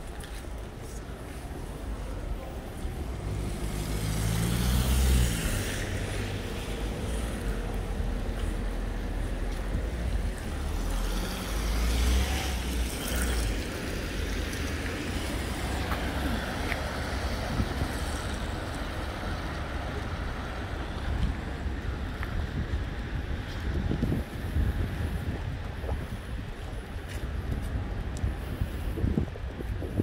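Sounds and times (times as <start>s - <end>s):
road traffic hiss: 0.0s - 30.0s
wind rumbling on microphone: 0.0s - 30.0s.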